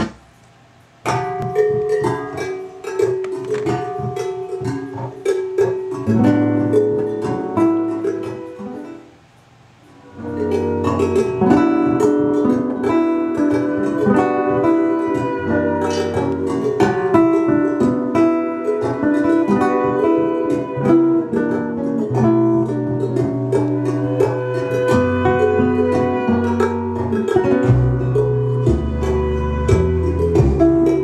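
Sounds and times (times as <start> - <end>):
guitar music through loudspeakers: 1.0 - 9.1, 10.0 - 31.0.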